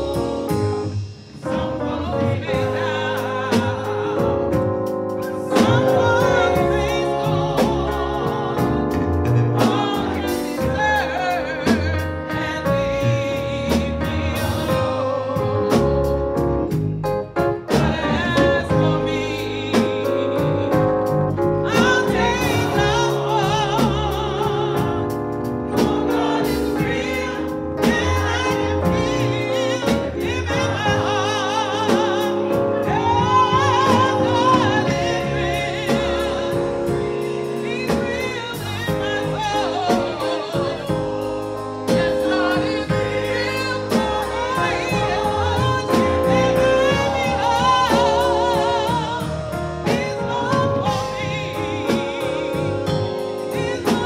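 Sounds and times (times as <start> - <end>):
women singing gospel song: 0.0 - 16.8, 17.5 - 54.0.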